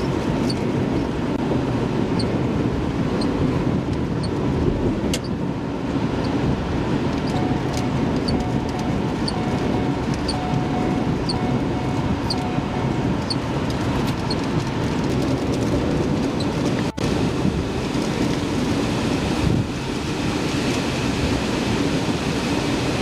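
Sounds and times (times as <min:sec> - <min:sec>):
strong wind roar: 0:00.0 - 0:23.0.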